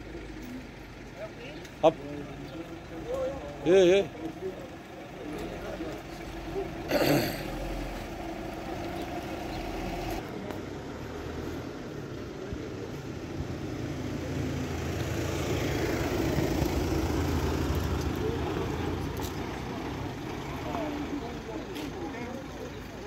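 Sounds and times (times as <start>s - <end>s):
engine running at low revs: 0.0s - 23.0s.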